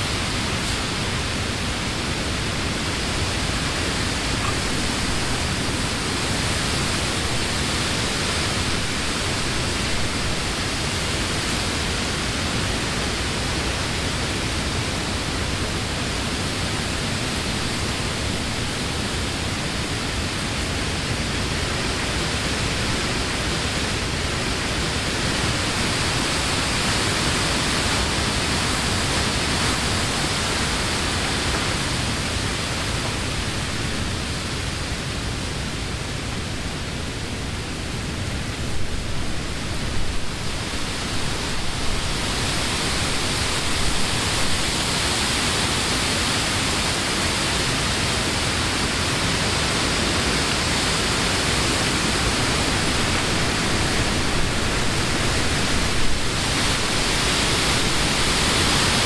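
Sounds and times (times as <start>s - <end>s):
wind rustling leaves: 0.0s - 59.0s.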